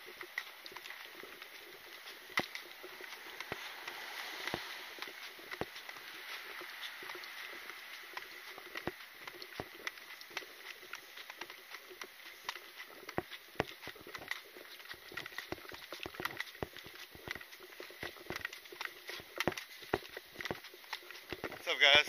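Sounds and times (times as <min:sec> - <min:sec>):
footsteps on concrete: 0:00.0 - 0:22.0
gear clicking and rattling: 0:00.0 - 0:22.0.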